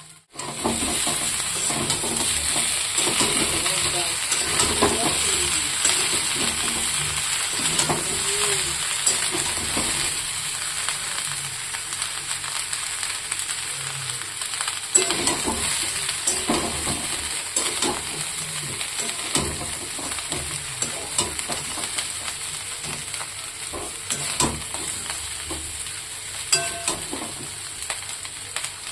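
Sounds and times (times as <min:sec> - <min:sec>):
food sizzling in a frying pan: 0:00.0 - 0:28.9.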